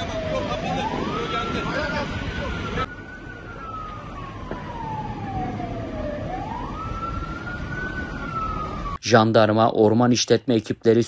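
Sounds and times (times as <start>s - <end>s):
emergency siren wailing: 0.0s - 9.0s.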